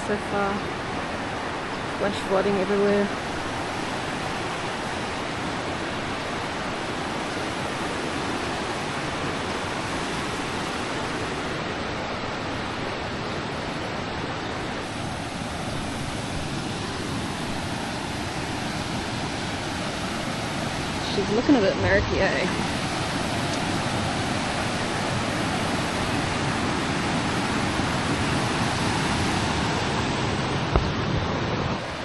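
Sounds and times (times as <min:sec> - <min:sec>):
floodwater roaring: 0:00.0 - 0:32.0.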